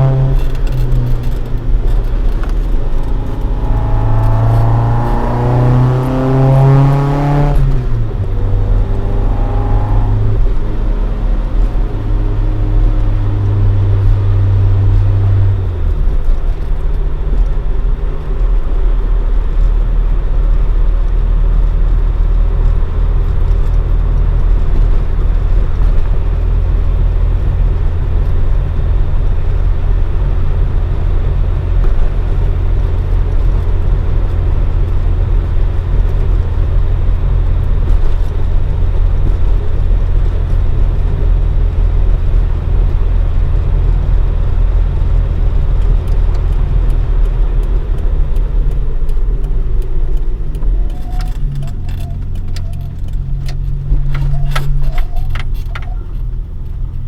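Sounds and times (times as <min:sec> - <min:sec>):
car engine at steady revs: 0:00.0 - 0:57.0
road noise: 0:00.0 - 0:57.0.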